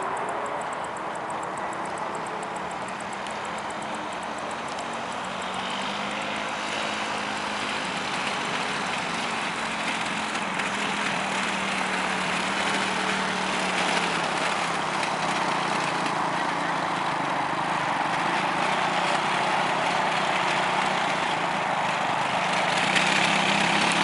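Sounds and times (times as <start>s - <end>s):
quad bike engine running: 0.0s - 24.0s.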